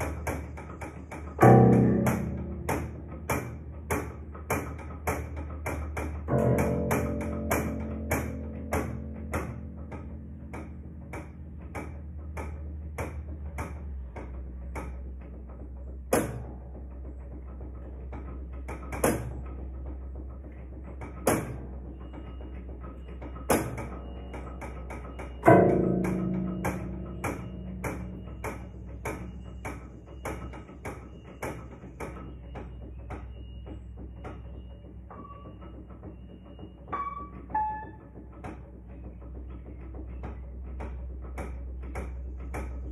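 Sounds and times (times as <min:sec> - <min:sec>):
heavy low piano chords: 0:00.0 - 0:42.9
out of tune piano repeated notes: 0:00.0 - 0:42.9.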